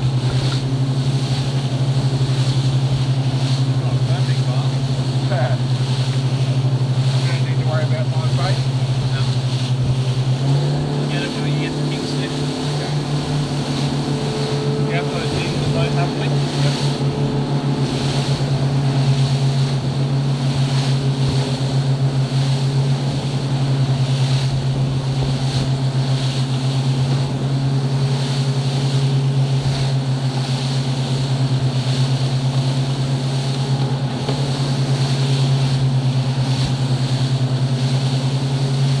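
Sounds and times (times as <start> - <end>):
outboard engine running: 0.0 - 39.0
water rushing from wake and spray: 0.0 - 39.0.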